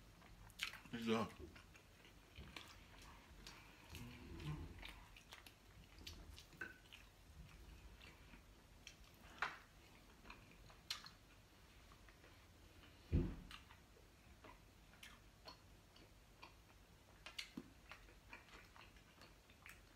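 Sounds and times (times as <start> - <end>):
person chewing: 0.0 - 19.9.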